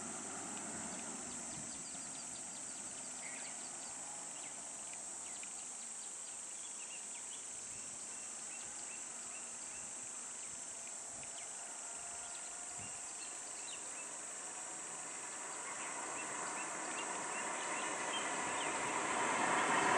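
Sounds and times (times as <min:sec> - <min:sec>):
insect chorus drone: 0:00.0 - 0:19.9.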